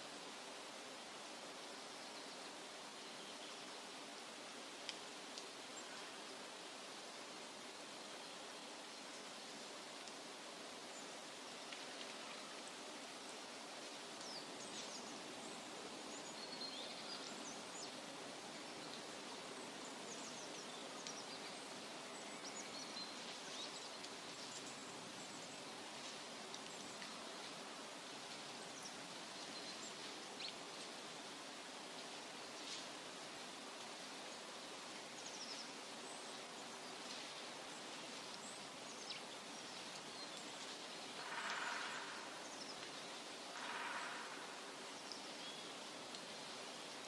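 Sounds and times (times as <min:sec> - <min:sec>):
soft forest rushing noise: 0:00.0 - 0:47.0.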